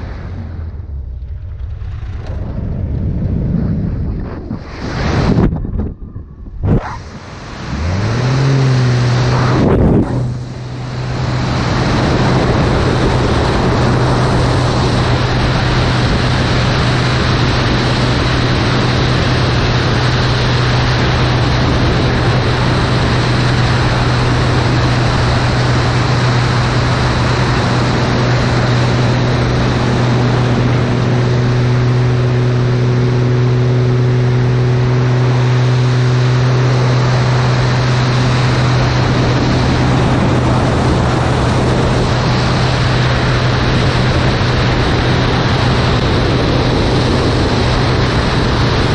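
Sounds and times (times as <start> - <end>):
propeller plane engine drone: 0.0 - 48.9
wind rushing over microphone: 0.0 - 48.9.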